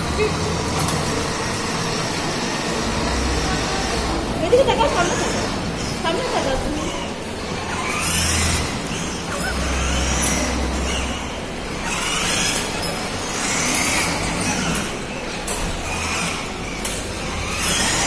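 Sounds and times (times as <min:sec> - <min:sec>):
electric toy car motors whining: 0:00.0 - 0:18.0.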